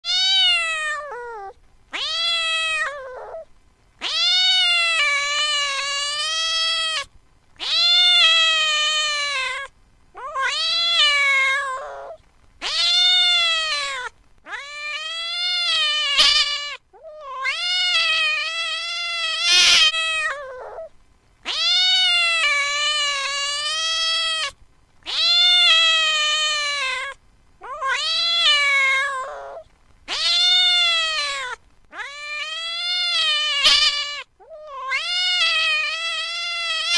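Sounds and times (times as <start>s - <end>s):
cat meowing: 0.0s - 36.9s.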